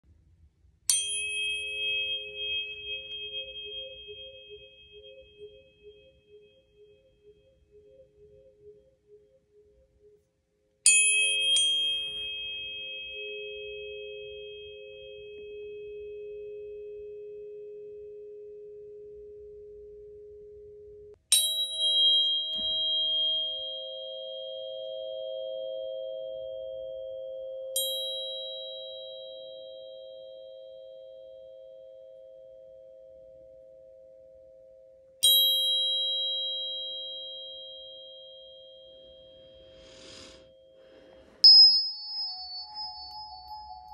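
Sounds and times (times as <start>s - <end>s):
tuning forks ringing: 0.9s - 8.8s, 10.8s - 43.9s.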